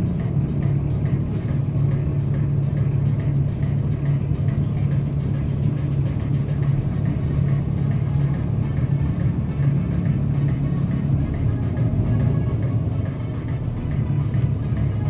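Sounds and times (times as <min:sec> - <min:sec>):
bus engine hum: 0:00.0 - 0:15.0
tyre and road noise: 0:00.0 - 0:15.0.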